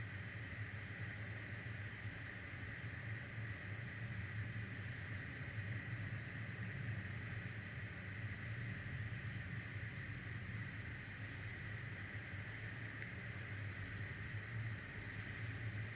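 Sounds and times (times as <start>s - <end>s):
constant low hum: 0.0s - 15.9s
even hiss: 0.6s - 15.9s.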